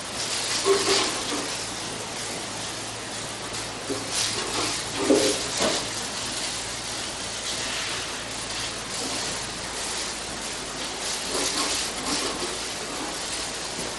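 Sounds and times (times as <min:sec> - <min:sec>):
milking machinery hum and hiss: 0:00.0 - 0:13.9.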